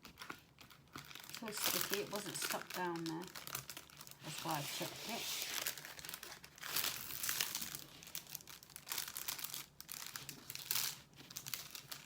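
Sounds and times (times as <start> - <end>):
plastic film crinkling: 0.0 - 12.0.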